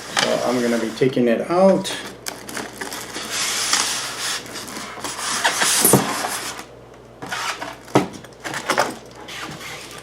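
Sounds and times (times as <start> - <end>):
packaging rustling and scraping: 1.9 - 10.0.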